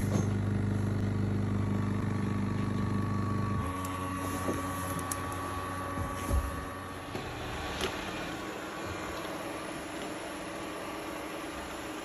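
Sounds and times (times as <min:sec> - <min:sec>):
pump humming: 0:00.0 - 0:12.0.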